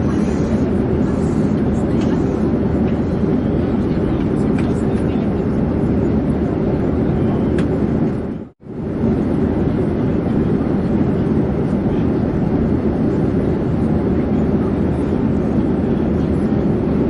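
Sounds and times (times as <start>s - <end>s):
airplane engine drone: 0.0s - 17.0s.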